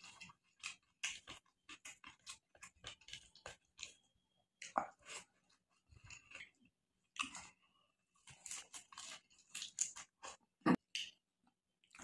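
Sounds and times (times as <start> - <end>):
man chewing and lip smacking: 0.0 - 12.0.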